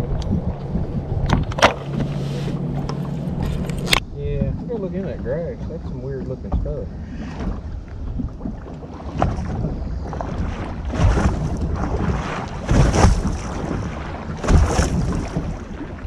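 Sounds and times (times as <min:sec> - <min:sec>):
waves slapping boat hull: 0:00.0 - 0:16.0
wind buffeting microphone: 0:00.0 - 0:16.0.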